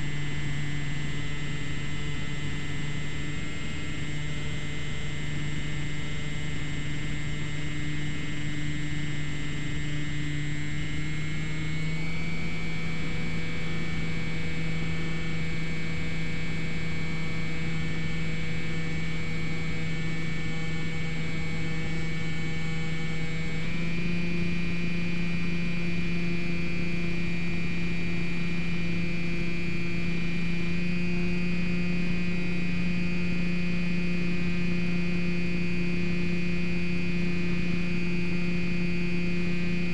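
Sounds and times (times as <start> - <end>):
model plane electric motor humming: 0.0 - 39.9.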